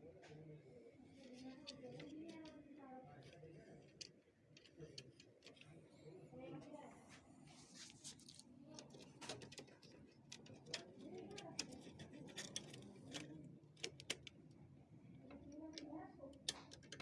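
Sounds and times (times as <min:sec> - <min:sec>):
light clicks of plastic parts: 0:00.2 - 0:06.7, 0:07.8 - 0:17.0.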